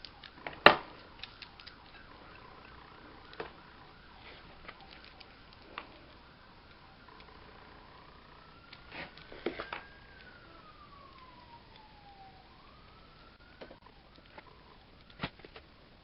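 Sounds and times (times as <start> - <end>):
faint siren wailing: 0.0 - 16.0.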